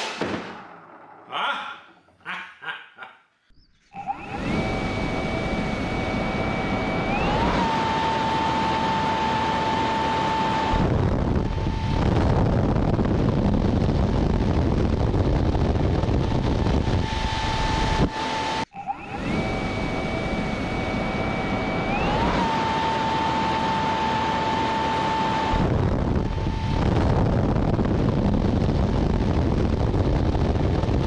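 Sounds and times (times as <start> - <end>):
electric ducted fan whine: 4.0 - 31.0.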